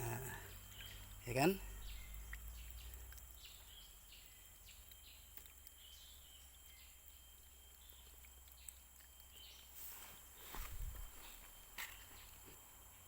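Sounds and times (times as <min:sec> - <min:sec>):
bird chirps: 0:00.0 - 0:12.4
steady high-pitched hum: 0:00.0 - 0:13.0.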